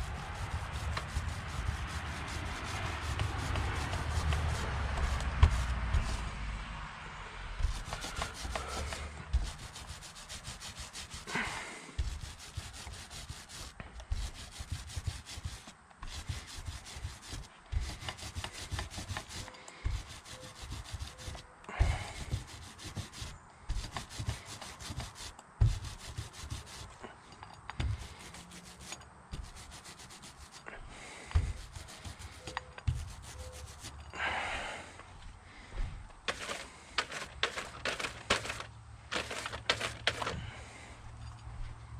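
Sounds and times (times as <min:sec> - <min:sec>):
paint roller rubbing: 0:00.0 - 0:06.4, 0:07.6 - 0:27.1, 0:27.8 - 0:34.1, 0:36.3 - 0:40.4.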